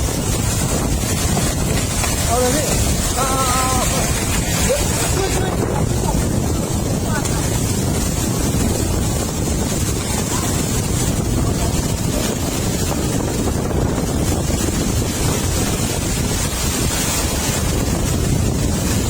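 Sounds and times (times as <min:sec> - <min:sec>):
heavy rain hiss: 0:00.0 - 0:19.0
wind buffeting microphone: 0:00.0 - 0:19.0.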